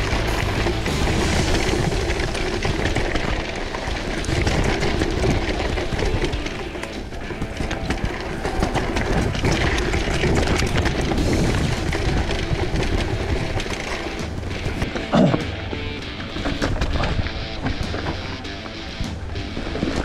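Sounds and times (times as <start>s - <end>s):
bike rattling over rocky ground: 0.0s - 20.0s.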